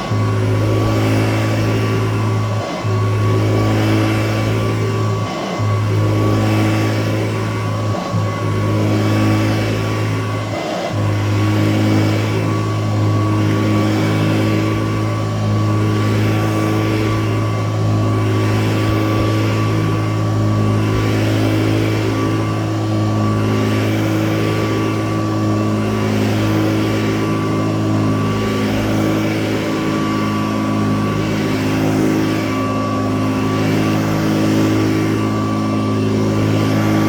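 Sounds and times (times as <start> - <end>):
upright vacuum cleaner running: 0.0 - 37.0.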